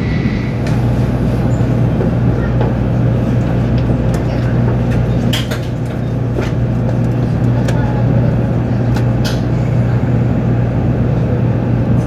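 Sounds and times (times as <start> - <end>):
train cabin hum and rumble: 0.0 - 12.0.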